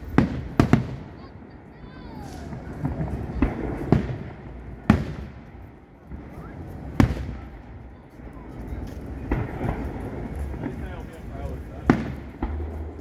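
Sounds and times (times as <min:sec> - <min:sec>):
fireworks shells booming: 0:00.0 - 0:13.0.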